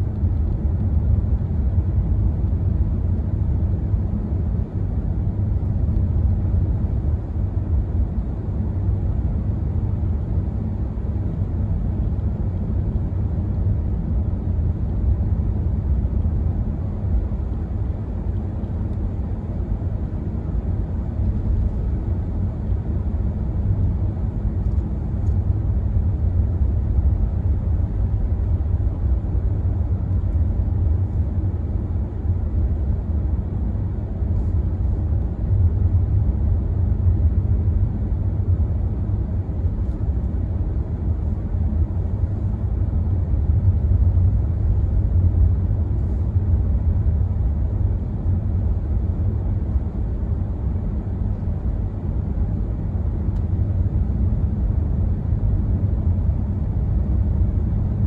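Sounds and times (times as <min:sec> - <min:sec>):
car driving on snowy road: 0:00.0 - 0:58.0.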